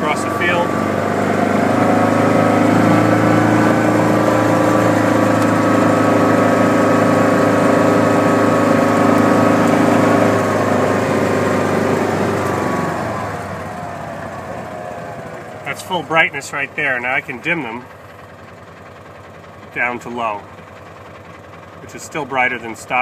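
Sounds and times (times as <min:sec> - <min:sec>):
utility vehicle engine running: 0:00.0 - 0:23.0.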